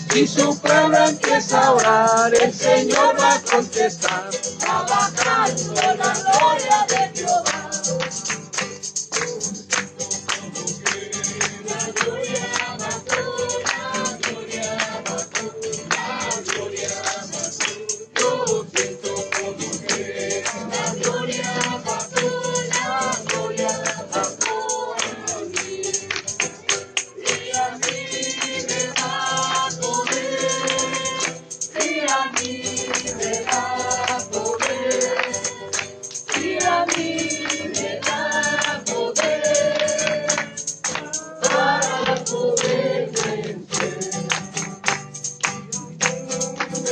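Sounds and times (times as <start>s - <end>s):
group singing worship chorus: 0.0s - 45.0s, 46.7s - 46.9s
tambourine shaken and struck: 0.0s - 46.9s.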